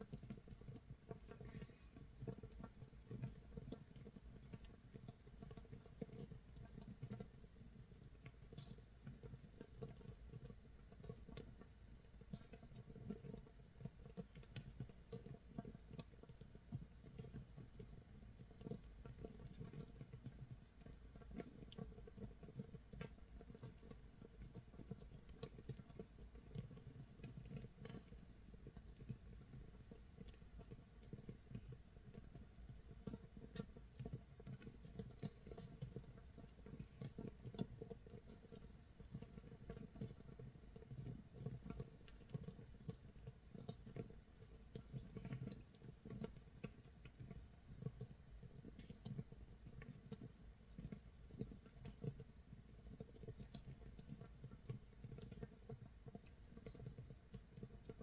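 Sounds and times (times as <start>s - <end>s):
fermentation bubbles popping: 0.0s - 58.0s.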